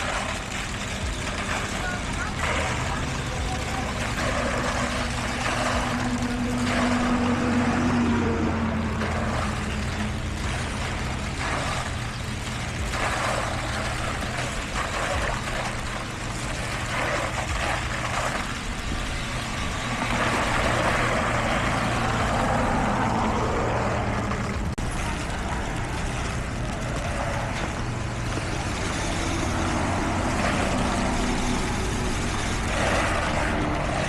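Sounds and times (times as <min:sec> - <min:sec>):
diesel construction machinery: 0:00.0 - 0:34.0
noisy rush: 0:00.0 - 0:34.0.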